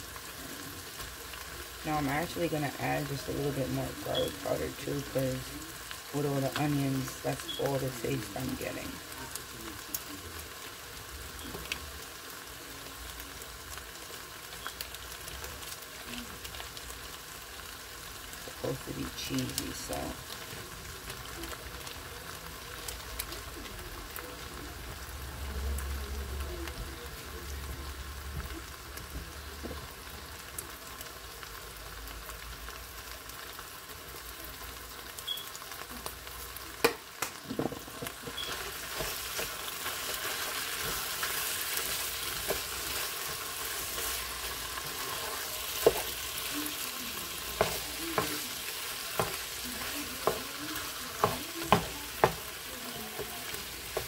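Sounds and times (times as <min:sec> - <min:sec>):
meat and onions sizzling in a pan: 0:00.0 - 0:54.0.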